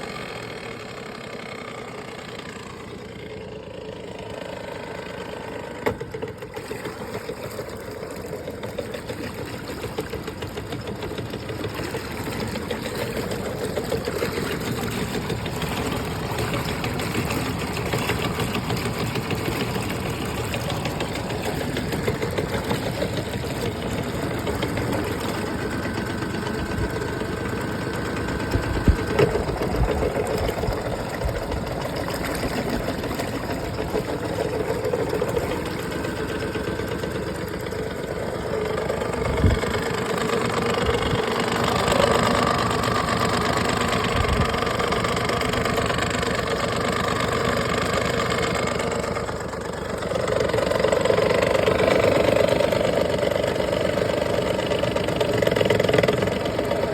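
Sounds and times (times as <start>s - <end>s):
outboard motor idling: 0.0s - 56.9s.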